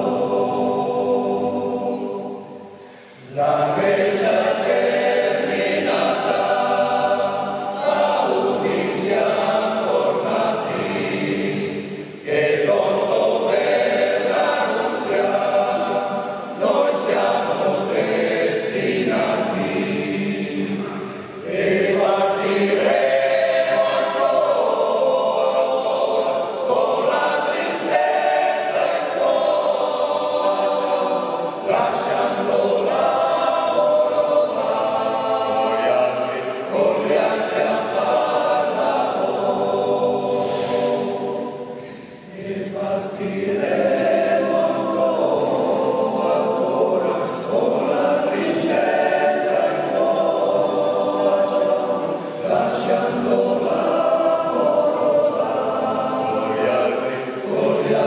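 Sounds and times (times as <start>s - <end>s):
men's choir singing a cappella: 0.0s - 58.0s.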